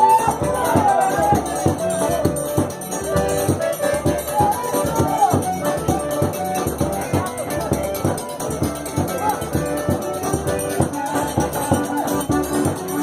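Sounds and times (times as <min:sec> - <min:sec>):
gliding melody line: 0:00.0 - 0:13.0.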